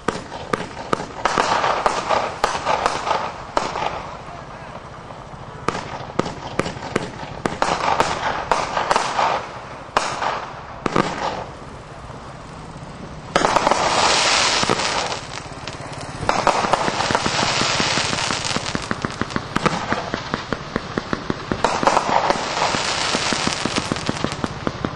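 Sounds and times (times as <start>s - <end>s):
firework crackling hiss: 0.0s - 24.9s
firework cracks and pops: 0.0s - 24.9s.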